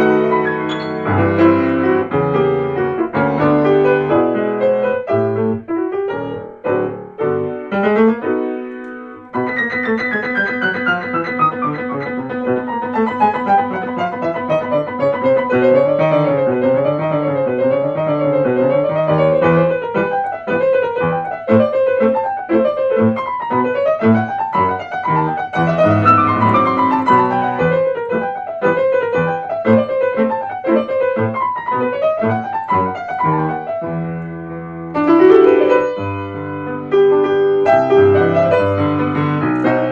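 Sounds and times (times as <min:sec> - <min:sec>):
piano playing rapid runs: 0:00.0 - 0:39.9.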